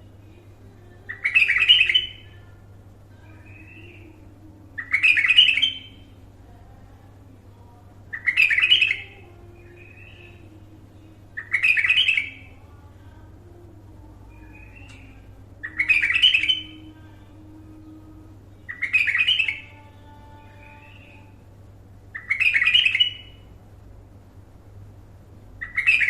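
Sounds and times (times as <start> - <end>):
bulbul singing: 0.0 - 23.6, 25.6 - 26.0
steady low hum: 0.0 - 26.0.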